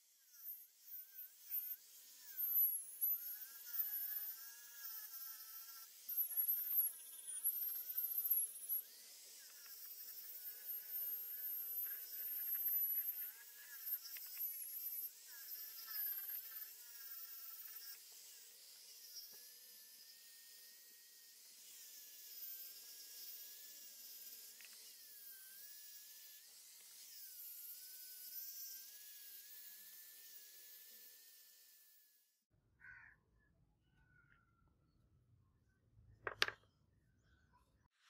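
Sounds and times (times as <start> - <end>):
angle grinder sanding wood: 0.0 - 31.8.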